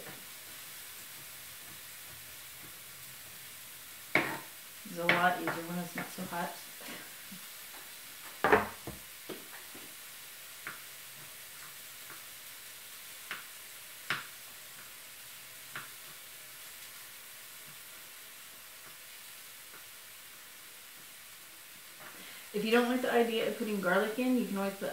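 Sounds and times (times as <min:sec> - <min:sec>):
faint steady hiss: 0:00.0 - 0:24.9.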